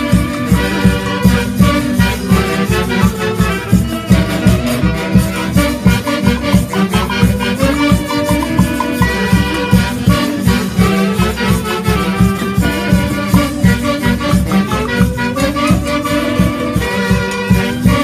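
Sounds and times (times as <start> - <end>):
brass band playing latin music: 0.0 - 18.0.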